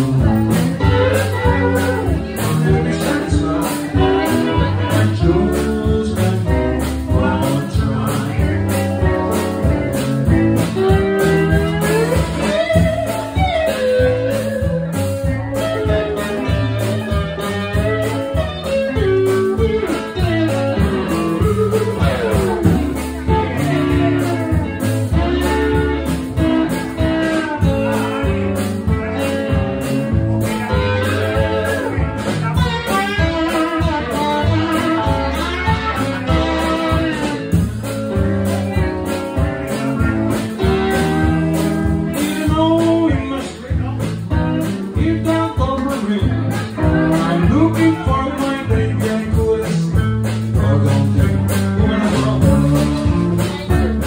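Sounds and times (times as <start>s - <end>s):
bass guitar: 0.0s - 54.0s
electric guitar with bent notes: 0.0s - 54.0s
steady drum beat: 0.0s - 54.0s.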